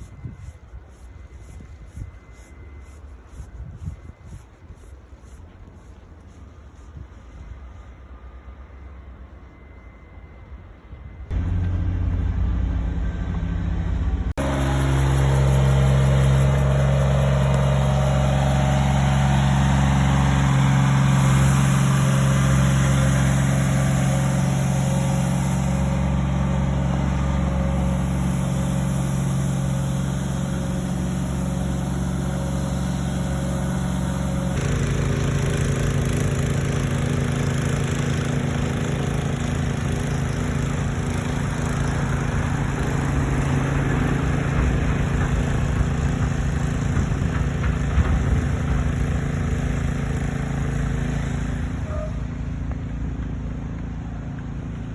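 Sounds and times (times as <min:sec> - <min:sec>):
diesel train engine drone: 0:00.0 - 0:54.9.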